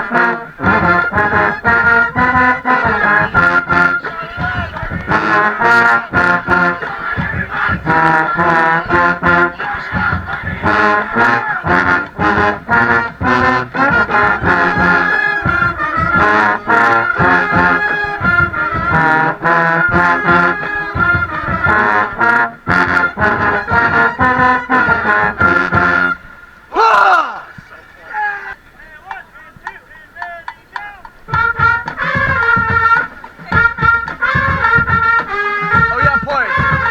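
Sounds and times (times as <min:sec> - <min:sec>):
brass section playing: 0:00.0 - 0:36.9.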